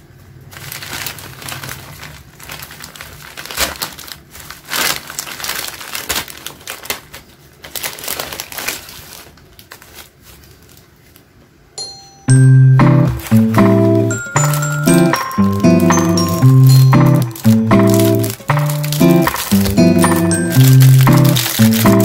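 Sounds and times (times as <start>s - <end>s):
plastic bag crinkling: 0.3s - 11.3s, 13.0s - 22.0s.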